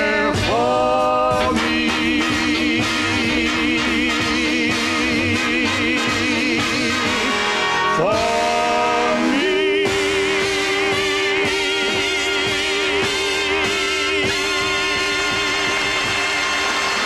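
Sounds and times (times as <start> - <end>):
man and woman singing duet: 0.0 - 15.6
orchestra playing: 0.0 - 17.0.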